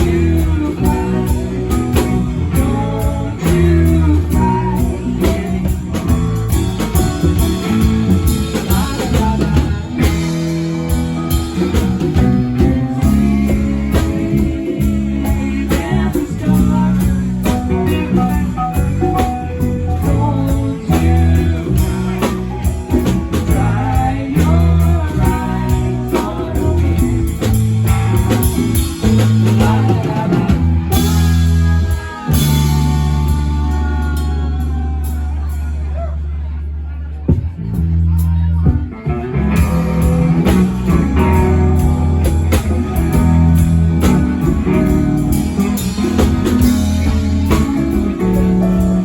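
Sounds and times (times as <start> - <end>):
drum kit: 0.0 - 36.2, 37.3 - 49.0
guitar: 0.0 - 49.0
person singing: 0.0 - 49.0.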